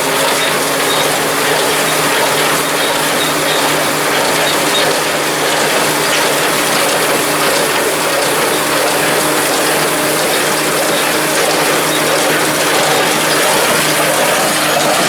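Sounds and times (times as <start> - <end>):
hay baler clatter: 0.0 - 15.0
tractor engine hum: 0.0 - 15.0.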